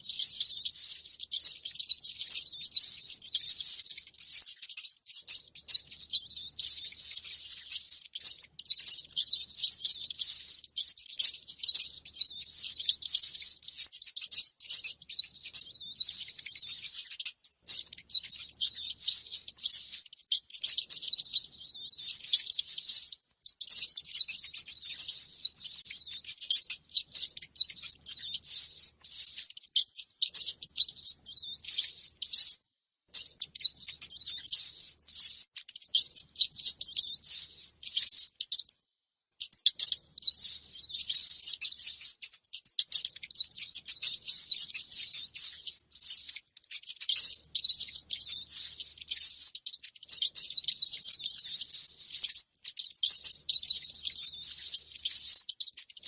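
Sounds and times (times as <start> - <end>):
rats squeaking and chittering: 0.0 - 56.0.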